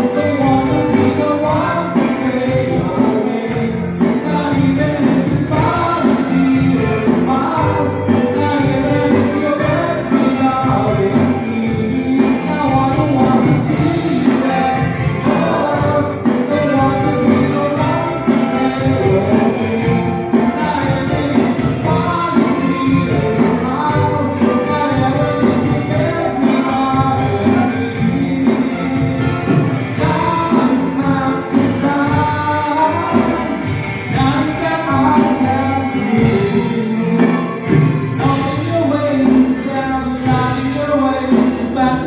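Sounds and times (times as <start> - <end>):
electric guitar: 0.0 - 42.0
keyboard: 0.0 - 42.0
man singing into microphone: 0.0 - 42.0.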